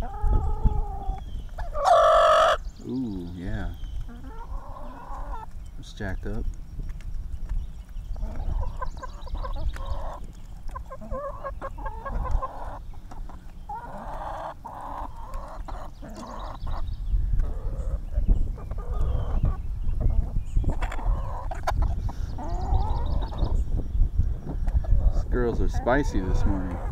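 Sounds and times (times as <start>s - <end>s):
hens clucking and squawking: 0.0s - 6.4s, 7.9s - 23.6s, 24.4s - 26.9s.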